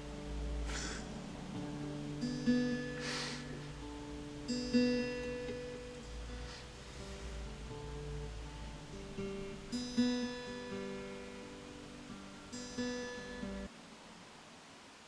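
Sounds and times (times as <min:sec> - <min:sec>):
acoustic guitar strummed chords: 0:00.0 - 0:13.7
faint hiss: 0:00.0 - 0:15.0.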